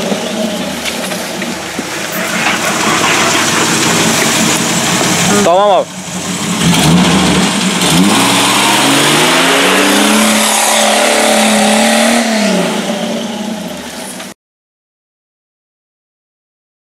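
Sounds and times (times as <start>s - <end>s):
off-road engine revving: 0.0s - 14.3s
tyres churning through mud: 0.0s - 14.4s.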